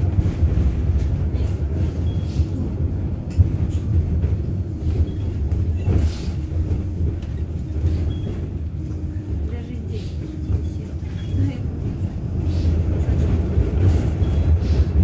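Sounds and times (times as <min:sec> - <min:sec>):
tram wheels rumbling: 0:00.0 - 0:15.0.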